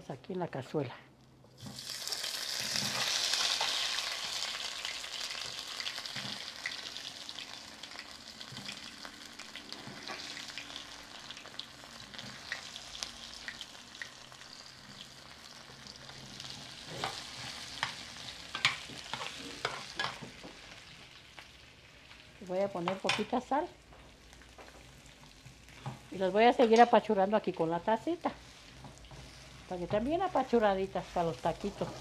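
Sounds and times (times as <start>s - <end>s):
potatoes frying in oil: 1.6s - 32.0s.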